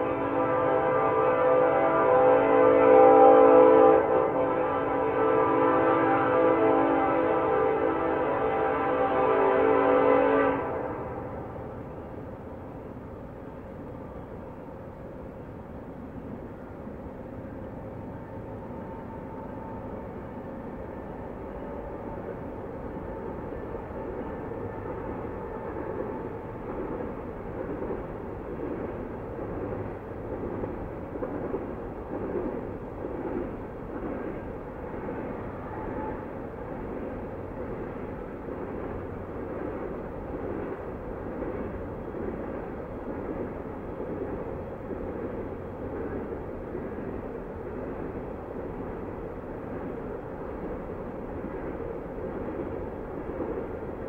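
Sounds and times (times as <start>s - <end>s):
distant freight train rumbling: 0.0s - 54.0s.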